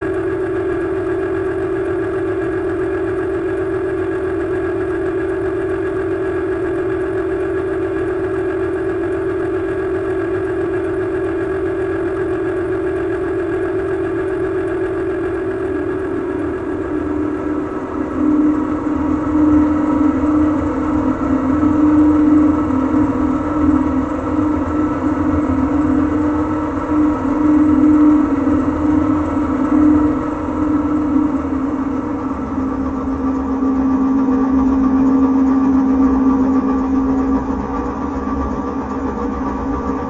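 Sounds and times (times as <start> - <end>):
distorted droning hum: 0.0 - 40.0.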